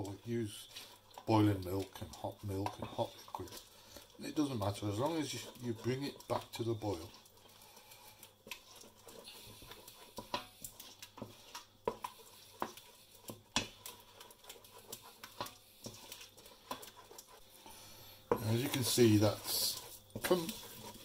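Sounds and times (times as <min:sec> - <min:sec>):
wooden spoon stirring in saucepan: 0:00.0 - 0:21.0.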